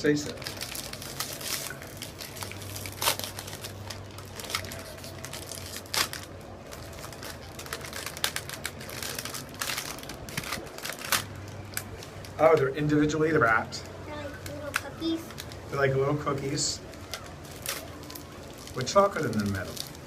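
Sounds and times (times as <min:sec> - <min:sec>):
snack packaging crinkling: 0:00.0 - 0:12.7, 0:13.8 - 0:20.0.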